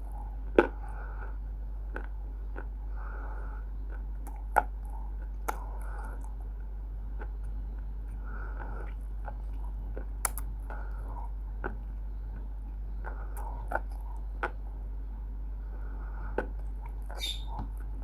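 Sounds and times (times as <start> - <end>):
crunchy biting and chewing: 0.0 - 14.8
low hum: 0.0 - 18.0.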